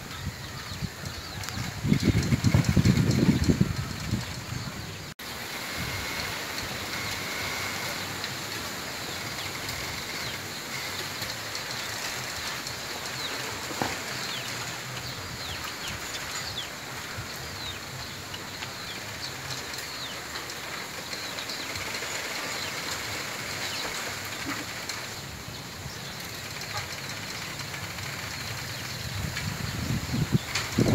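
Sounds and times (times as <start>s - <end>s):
wind rustling through bamboo: 0.0s - 30.9s.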